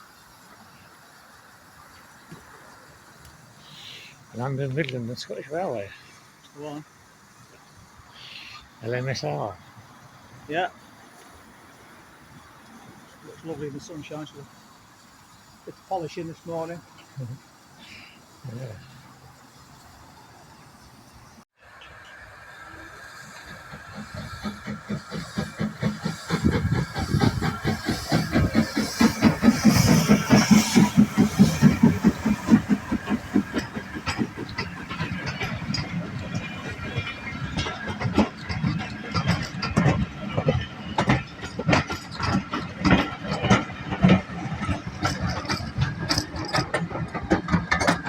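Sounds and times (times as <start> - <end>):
train clattering and knocking: 0.0 - 8.0, 8.8 - 21.4, 22.4 - 48.0
steam hiss: 0.0 - 48.0
steam locomotive exhaust beats: 0.0 - 48.0
train rumbling: 0.0 - 48.0.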